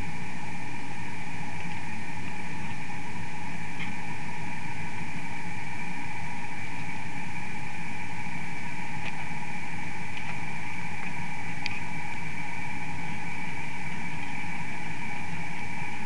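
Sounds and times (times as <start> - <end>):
faint whining tones: 0.0 - 16.0
steady hum and hiss: 0.0 - 16.0.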